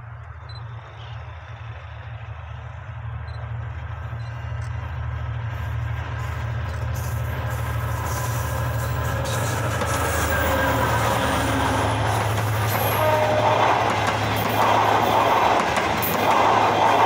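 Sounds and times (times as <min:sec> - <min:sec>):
locomotive engine drone: 0:00.0 - 0:17.0
wheels hissing on rail: 0:00.0 - 0:17.0.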